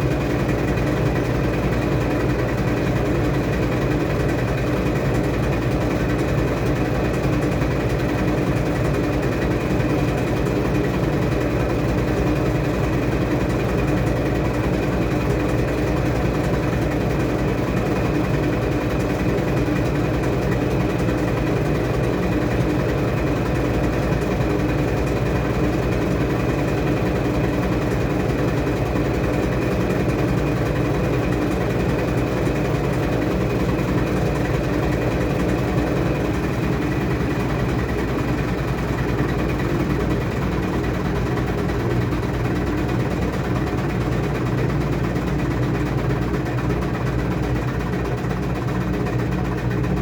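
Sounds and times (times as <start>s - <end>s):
washing machine motor hum: 0.0s - 50.0s.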